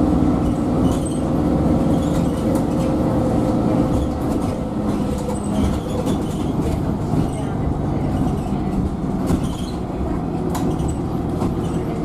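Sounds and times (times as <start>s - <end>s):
bus engine and tyre noise: 0.0s - 12.0s.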